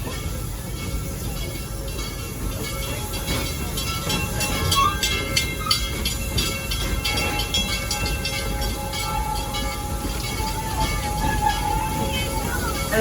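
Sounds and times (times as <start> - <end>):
train cars rumbling: 0.0 - 13.0.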